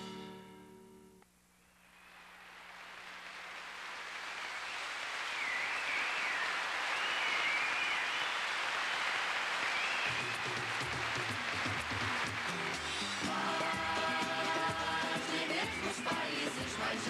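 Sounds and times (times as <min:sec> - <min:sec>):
audience applause: 0:02.0 - 0:17.0.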